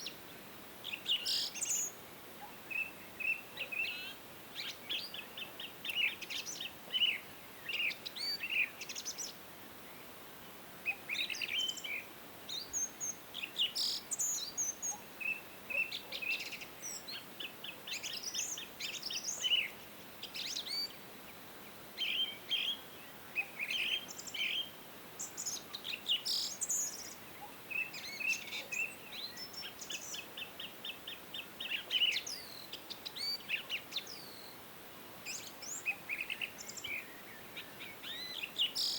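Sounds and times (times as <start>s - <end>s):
faint background hiss: 0.0s - 38.9s
songbirds singing and chirping: 0.0s - 38.9s.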